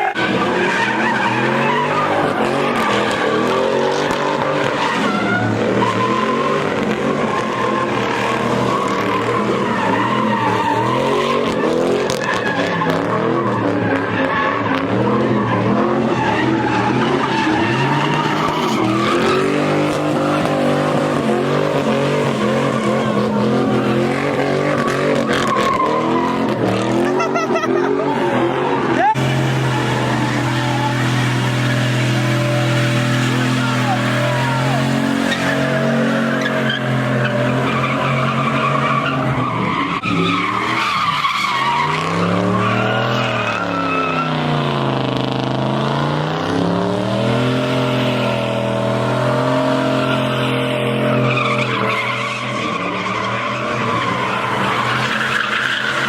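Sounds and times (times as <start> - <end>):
car engine revving hard: 0.0 - 56.0
tyres screeching: 0.0 - 56.0.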